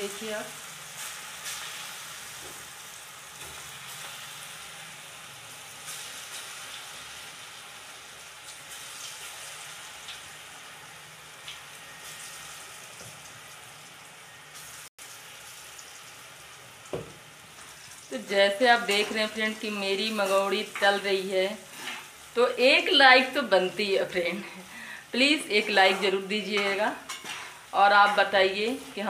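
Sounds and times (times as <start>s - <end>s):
fritters deep-frying in oil: 0.0s - 29.0s.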